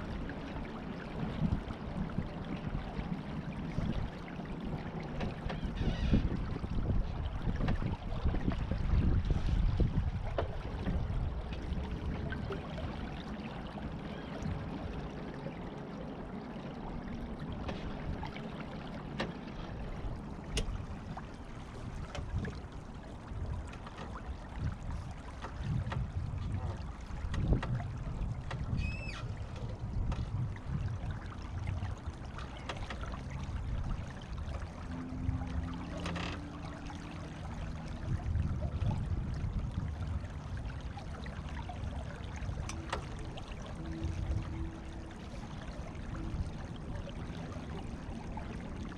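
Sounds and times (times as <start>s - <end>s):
low rumble: 0.0s - 48.9s
water rushing along boat hull: 0.0s - 48.9s.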